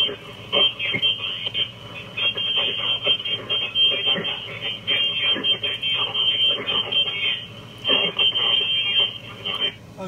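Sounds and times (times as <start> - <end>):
indistinct voice over radio: 0.0 - 9.8.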